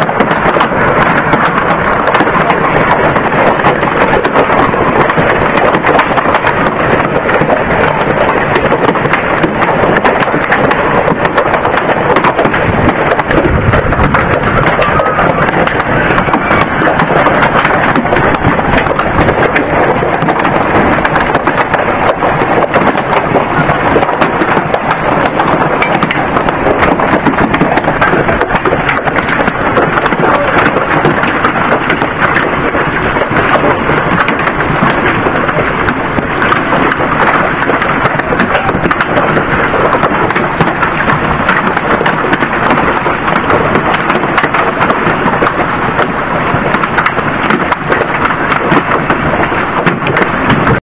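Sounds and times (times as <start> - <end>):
hail and heavy rain pelting: 0.0 - 50.8.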